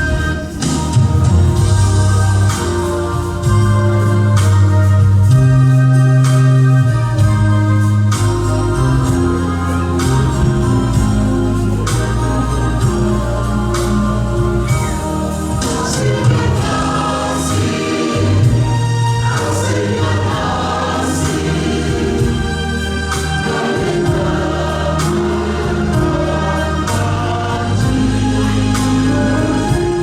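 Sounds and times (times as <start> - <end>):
choir singing a hymn: 0.0 - 30.0
steady low bass: 0.0 - 30.0.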